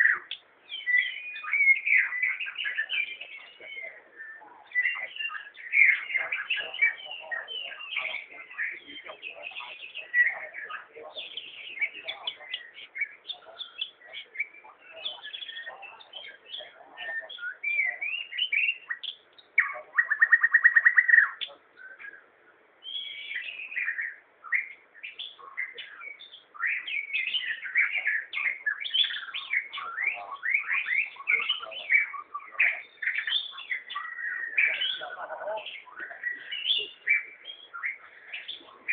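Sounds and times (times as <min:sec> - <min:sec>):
bird singing whistled phrases: 0:00.0 - 0:22.2, 0:22.8 - 0:35.2, 0:35.8 - 0:38.9.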